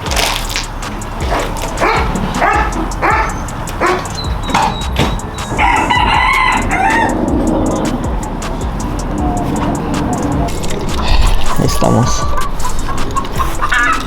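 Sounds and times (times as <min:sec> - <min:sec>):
rooster crowing: 0:01.0 - 0:10.6, 0:12.2 - 0:14.0.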